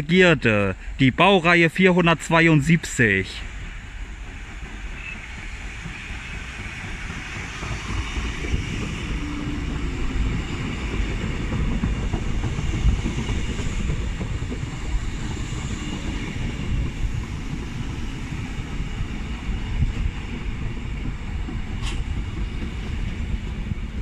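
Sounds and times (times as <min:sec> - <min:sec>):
rumble of train wheels on rails: 0:00.0 - 0:24.0.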